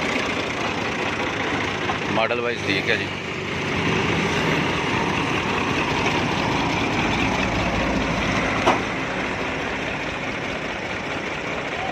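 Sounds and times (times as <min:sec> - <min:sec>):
diesel tractor engine idling: 0:00.0 - 0:11.9.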